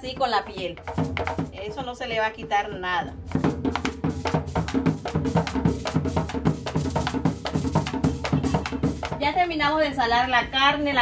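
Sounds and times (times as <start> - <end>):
music with fast drum beat: 0.0 - 10.1.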